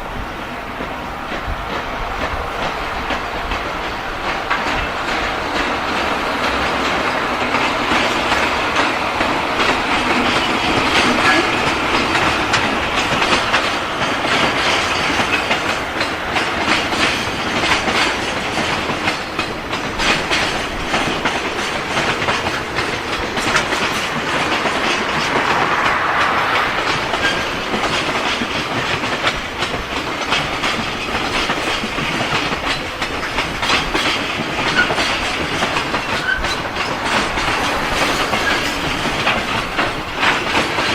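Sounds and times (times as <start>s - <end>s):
freight train wagons rolling: 0.0s - 40.9s
wheels clicking over rail joints: 0.4s - 40.9s.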